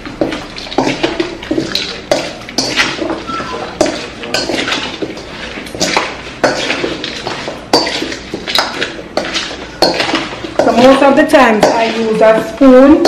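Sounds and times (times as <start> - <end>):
utensil clinking against dish: 0.2 - 13.0.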